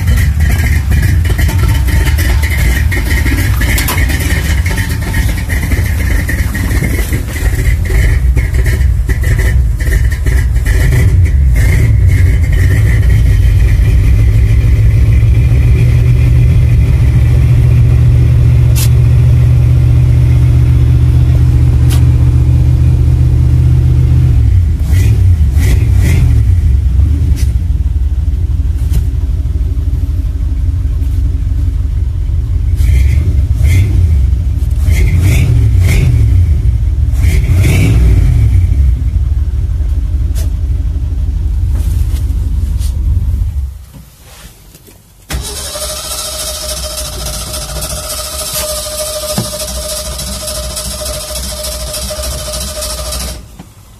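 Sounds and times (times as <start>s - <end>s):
truck engine running: 0.0s - 44.4s, 45.2s - 53.9s.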